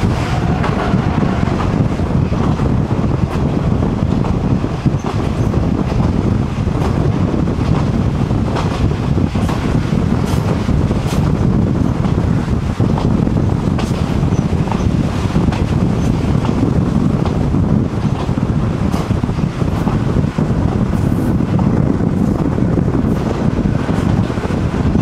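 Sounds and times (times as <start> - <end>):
diesel railcar rumbling: 0.0 - 25.0.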